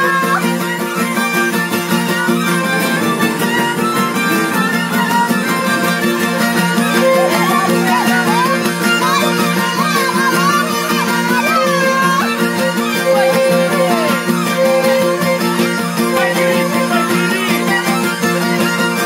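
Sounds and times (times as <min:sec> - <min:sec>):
fiddle dance tune: 0:00.0 - 0:19.0
strummed guitar chords: 0:00.0 - 0:19.0.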